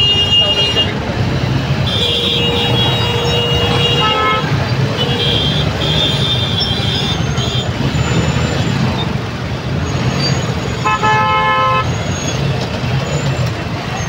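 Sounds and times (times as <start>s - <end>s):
horns honking: 0.0s - 9.2s, 10.0s - 12.6s
motorcycle engines running: 0.0s - 10.9s, 11.8s - 14.0s.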